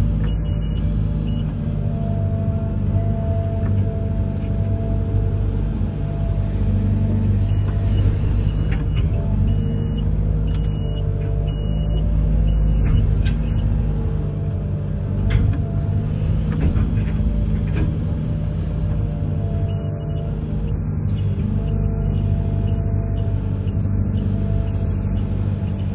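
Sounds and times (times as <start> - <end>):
diesel engine running under load: 0.0 - 25.9.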